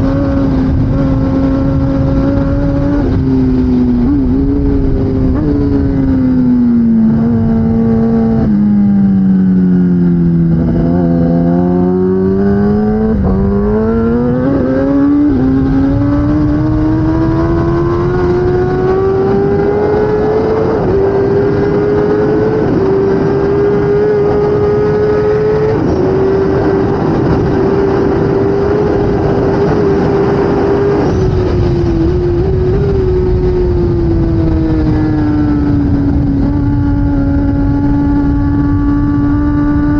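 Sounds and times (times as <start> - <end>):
motorcycle engine running hard: 0.0 - 39.9
wind and road noise: 0.0 - 39.9.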